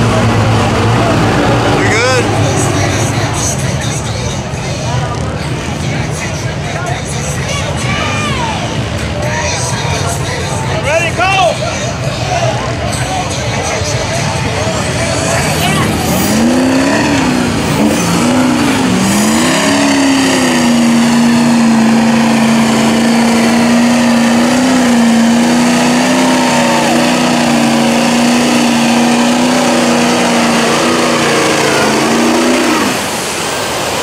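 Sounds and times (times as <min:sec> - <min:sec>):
diesel truck engine revving: 0:00.0 - 0:34.0
truck plowing through mud: 0:00.0 - 0:34.0.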